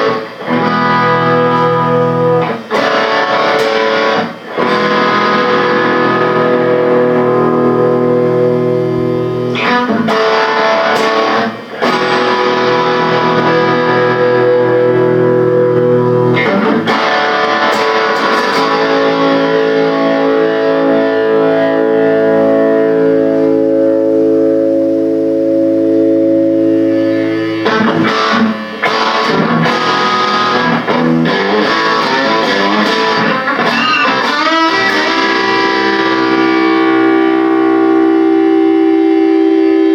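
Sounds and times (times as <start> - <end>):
guitar chords: 0.0 - 39.9.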